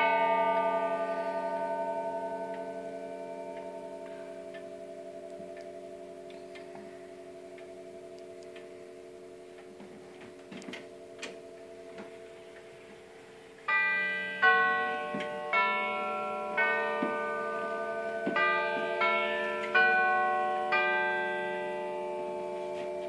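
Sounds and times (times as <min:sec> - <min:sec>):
tubular bells chime melody: 0:00.0 - 0:23.0.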